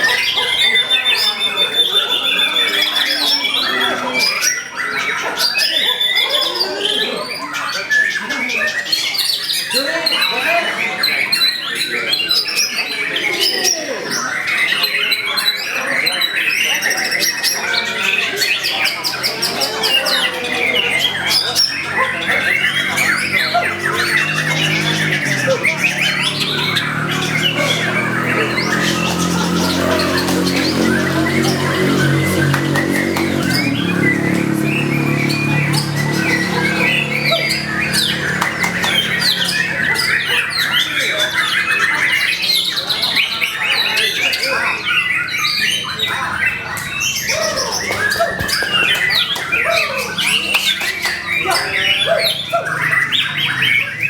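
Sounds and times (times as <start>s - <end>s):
bird singing fast trills and whistles: 0.0s - 54.0s.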